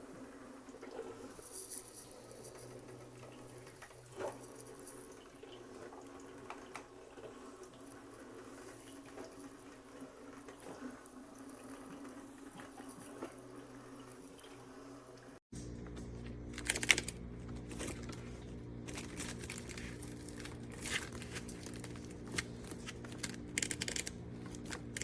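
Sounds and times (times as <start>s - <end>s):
coffee maker low hum: 0.0s - 25.0s.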